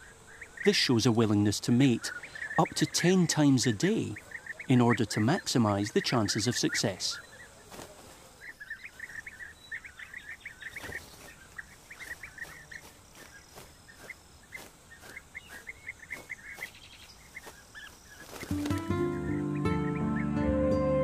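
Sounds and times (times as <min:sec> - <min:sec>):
bee-eaters chirping: 0:00.0 - 0:20.8.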